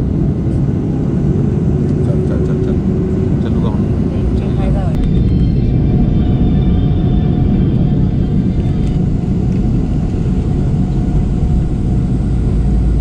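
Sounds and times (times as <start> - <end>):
airliner engine rumble in cabin: 0.0 - 13.0.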